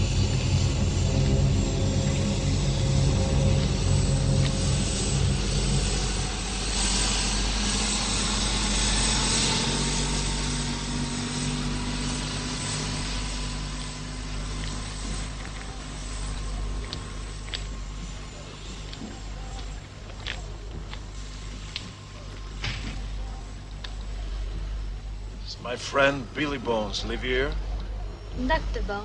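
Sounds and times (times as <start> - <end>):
hovercraft engine and fans: 0.0 - 29.0.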